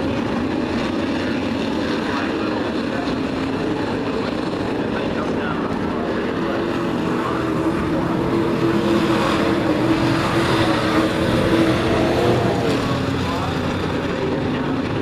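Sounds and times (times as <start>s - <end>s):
race truck engines: 0.0s - 15.0s.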